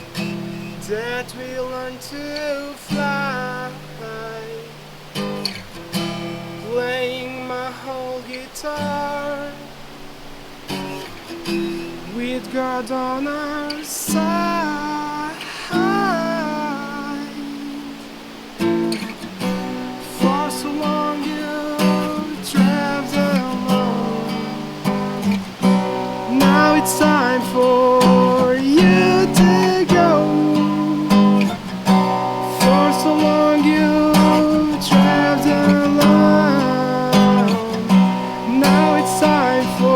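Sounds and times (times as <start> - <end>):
strummed acoustic guitar: 0.0 - 39.9
man singing: 0.8 - 4.8, 6.6 - 9.8, 12.0 - 18.0, 20.0 - 25.2, 26.1 - 39.9.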